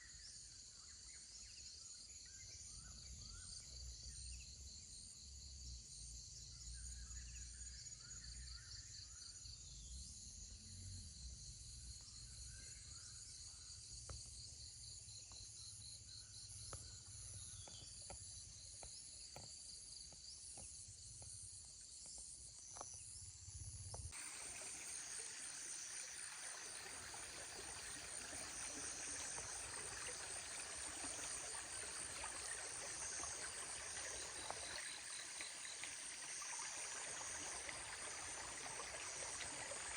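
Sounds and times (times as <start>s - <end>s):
insects chirping in trills: 0.1s - 39.9s.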